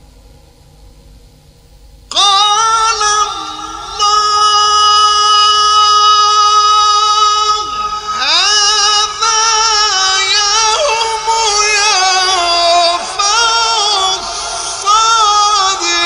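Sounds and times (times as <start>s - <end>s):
man chanting melodically: 2.1s - 16.0s.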